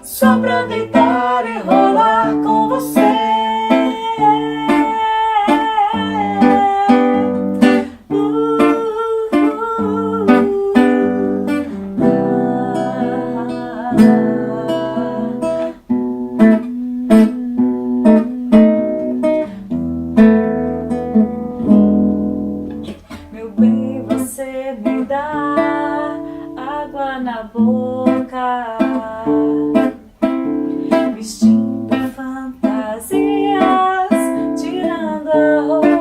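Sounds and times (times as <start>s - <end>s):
acoustic guitar strummed and picked: 0.0s - 36.0s.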